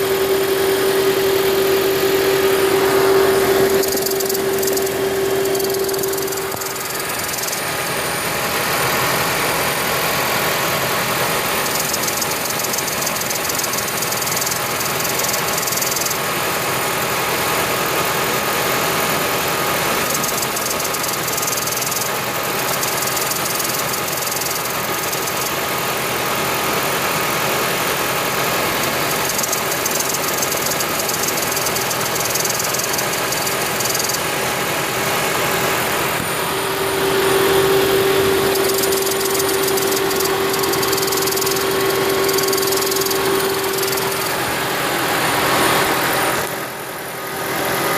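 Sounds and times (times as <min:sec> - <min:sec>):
car engine running: 0:00.0 - 0:47.9
engine hiss: 0:00.0 - 0:47.9.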